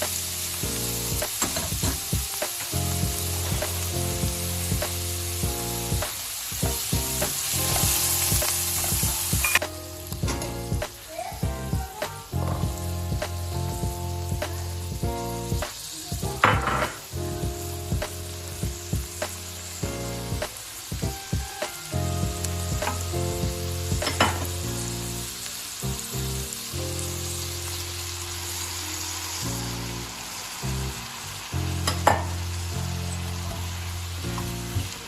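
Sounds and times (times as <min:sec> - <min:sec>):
food sizzling in pan: 0:00.0 - 0:35.0
music playing: 0:00.0 - 0:35.0.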